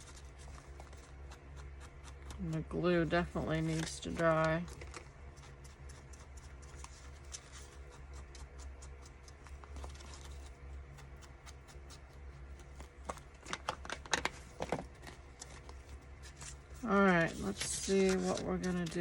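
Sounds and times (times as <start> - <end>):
low steady hum: 0.0 - 19.0
paper rustling: 3.4 - 19.0.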